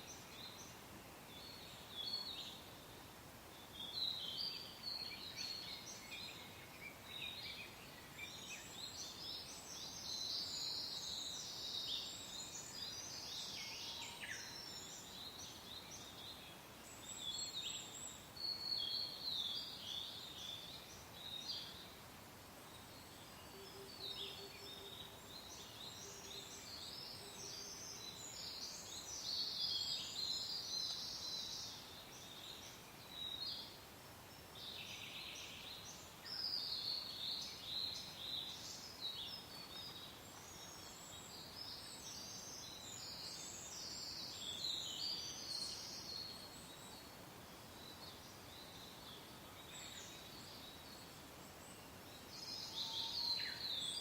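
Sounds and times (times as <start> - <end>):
soft wind hiss: 0.0 - 54.0
songbirds chirping and trilling: 3.4 - 54.0.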